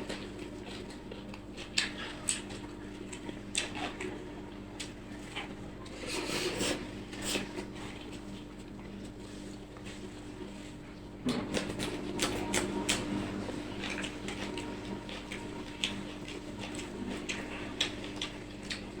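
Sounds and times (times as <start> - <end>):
chewing and mouth noises: 0.0 - 19.0
steady low hum: 0.0 - 19.0.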